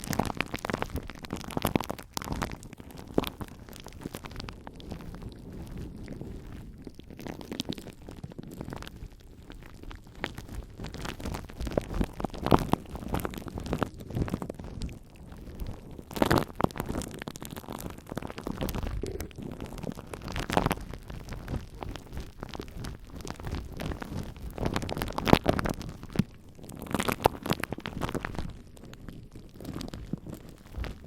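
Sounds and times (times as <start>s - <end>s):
microphone handling rumble: 0.0s - 31.0s.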